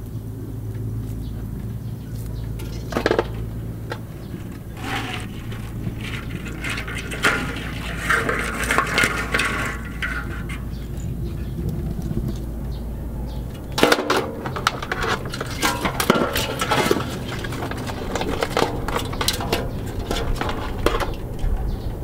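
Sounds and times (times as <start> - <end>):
crabs scraping against metal basin: 2.6 - 12.7, 13.3 - 22.0.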